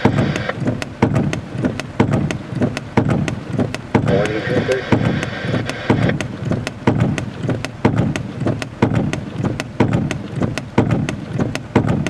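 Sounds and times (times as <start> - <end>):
heavy rain pelting window: 0.0 - 12.0.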